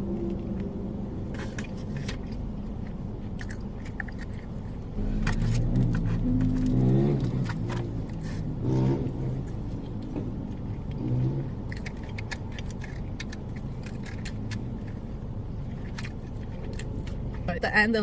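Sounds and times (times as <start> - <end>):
chewing with wet mouth clicks: 0.0 - 17.5
steady low hum: 0.0 - 18.0.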